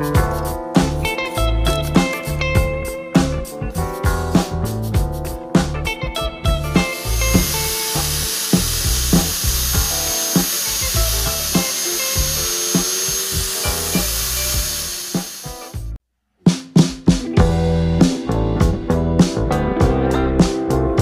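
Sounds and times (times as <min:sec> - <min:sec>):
background music with steady beat: 0:00.0 - 0:21.0.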